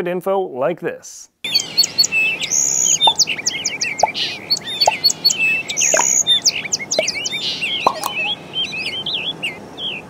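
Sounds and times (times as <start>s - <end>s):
small birds chirping: 1.5s - 10.0s.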